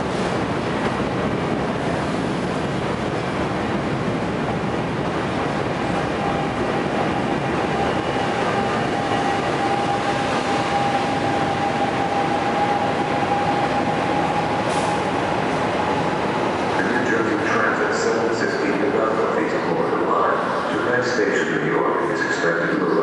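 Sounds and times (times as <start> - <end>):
steady train whine: 0.0 - 23.0.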